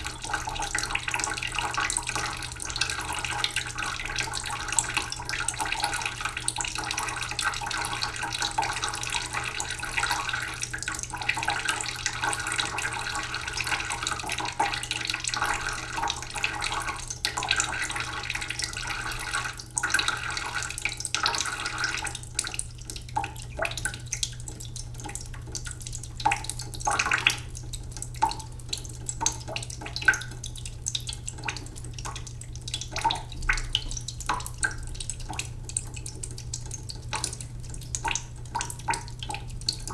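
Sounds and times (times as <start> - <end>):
tap water trickling into pot: 0.0 - 39.9
water drips and splashes: 0.0 - 39.9.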